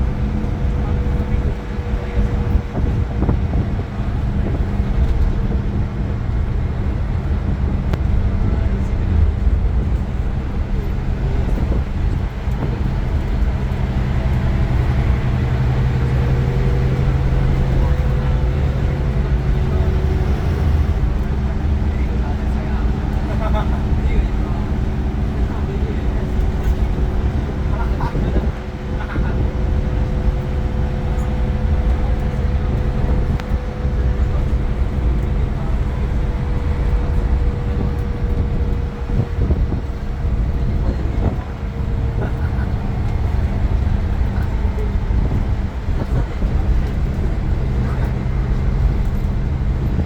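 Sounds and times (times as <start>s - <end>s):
bus diesel engine running: 0.0s - 50.0s
steady whine: 0.0s - 50.0s.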